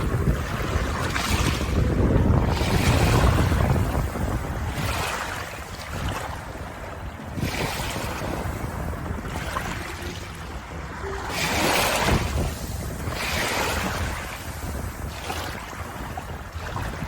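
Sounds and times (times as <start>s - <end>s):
water waves: 0.0s - 17.0s
wind buffeting microphone: 0.0s - 17.0s.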